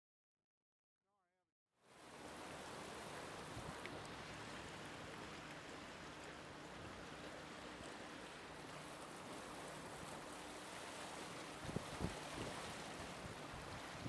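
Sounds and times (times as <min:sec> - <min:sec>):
floodwater rushing: 0:01.9 - 0:14.0.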